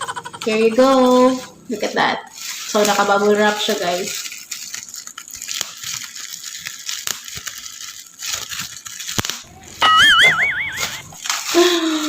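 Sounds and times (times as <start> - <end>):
bubble wrap crinkling and clicking: 2.3 - 12.0.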